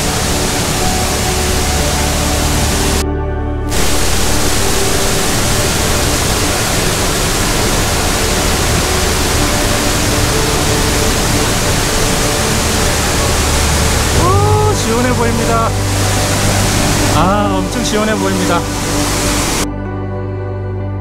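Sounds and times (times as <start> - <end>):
stream rushing over rocks: 0.0 - 3.0, 3.7 - 19.6.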